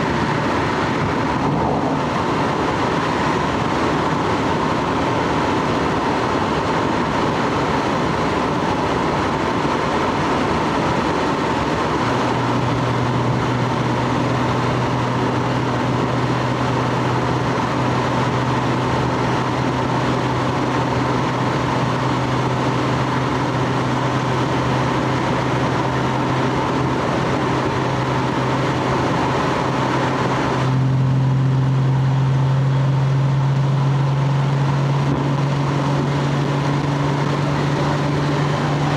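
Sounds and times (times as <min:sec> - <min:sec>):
car engine running: 0:00.0 - 0:38.9
low steady drone: 0:00.0 - 0:38.9
road and exhaust noise: 0:00.0 - 0:38.9.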